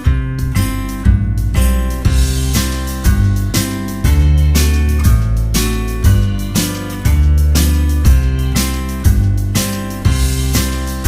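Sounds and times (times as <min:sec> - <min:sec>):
bass line: 0:00.0 - 0:11.0
upbeat acoustic guitar music: 0:00.0 - 0:11.0.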